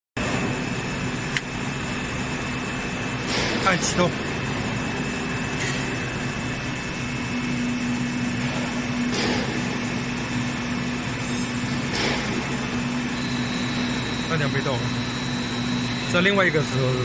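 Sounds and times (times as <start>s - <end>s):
industrial machine whirring: 0.2s - 17.0s.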